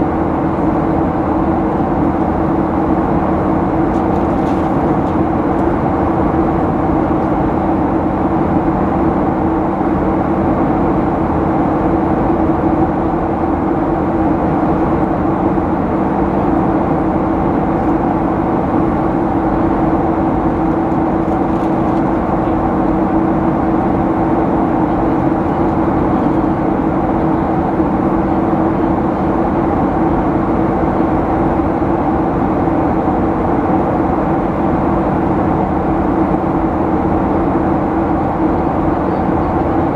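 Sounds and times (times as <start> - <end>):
jet engine hum: 0.0 - 39.9.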